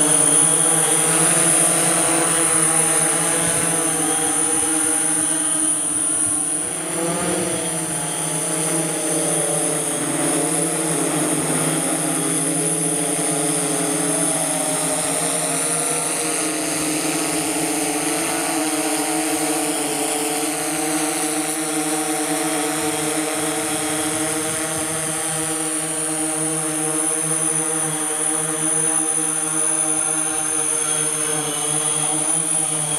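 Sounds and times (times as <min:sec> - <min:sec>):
drone rotors humming: 0:00.0 - 0:32.9.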